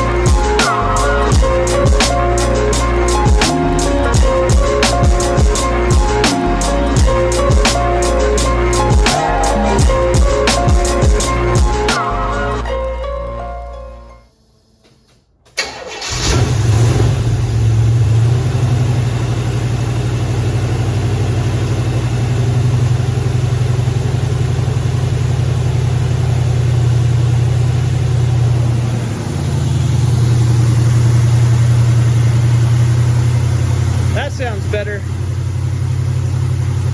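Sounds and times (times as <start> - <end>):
car engine starting and running: 0.0 - 13.9, 14.8 - 36.9.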